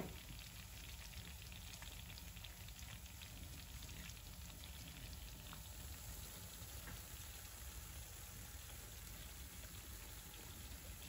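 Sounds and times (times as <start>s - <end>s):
porridge bubbling in pot: 0.0s - 11.0s.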